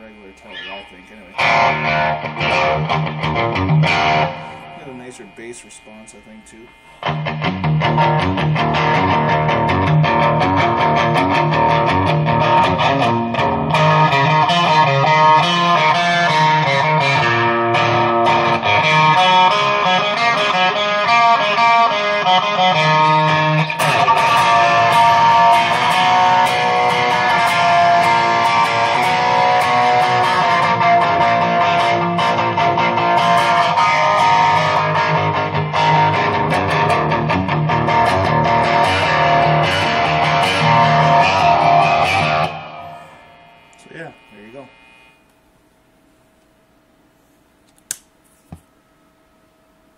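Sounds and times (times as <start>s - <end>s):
electric guitar playing: 0.0s - 45.1s.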